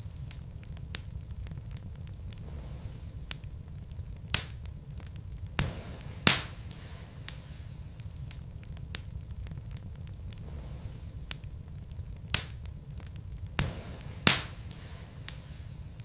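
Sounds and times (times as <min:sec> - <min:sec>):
wood logs burning and crackling: 0:00.0 - 0:16.0.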